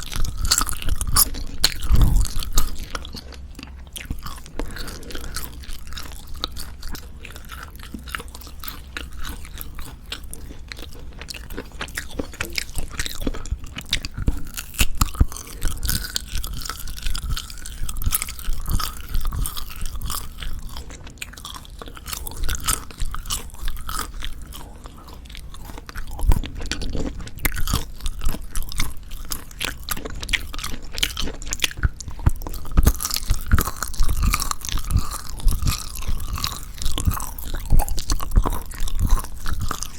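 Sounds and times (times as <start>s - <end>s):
wet chewing with clicks: 0.0s - 39.9s.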